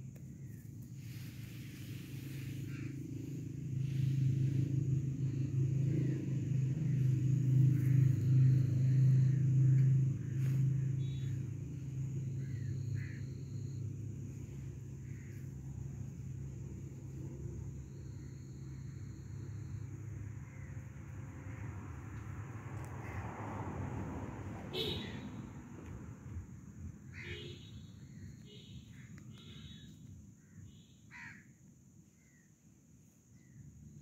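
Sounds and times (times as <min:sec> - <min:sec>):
vehicle engine rumble: 0:00.0 - 0:30.7.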